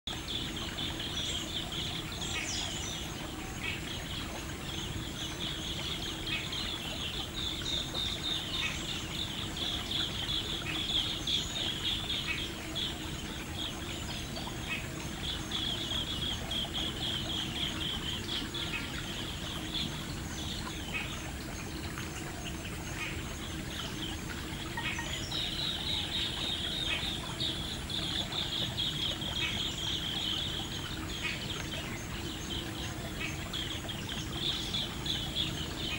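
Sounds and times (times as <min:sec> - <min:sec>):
birds chirping and trilling: 0:00.1 - 0:35.9.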